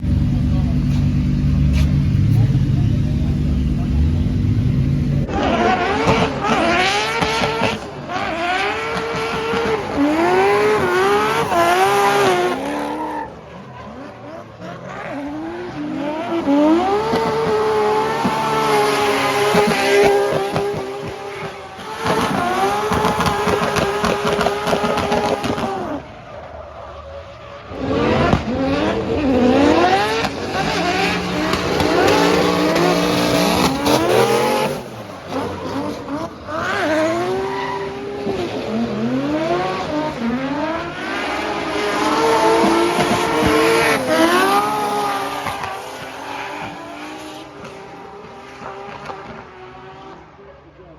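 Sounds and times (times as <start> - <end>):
car engine revving: 0.0 - 26.1, 27.6 - 50.3
tyres squealing and skidding: 5.3 - 47.5.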